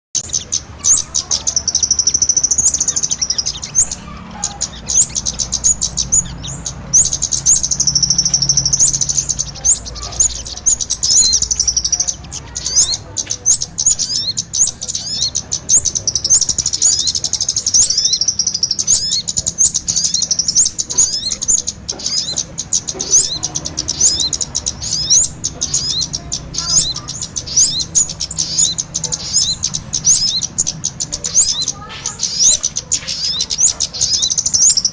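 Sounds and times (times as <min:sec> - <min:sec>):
birds chirping and twittering: 0:00.1 - 0:34.9.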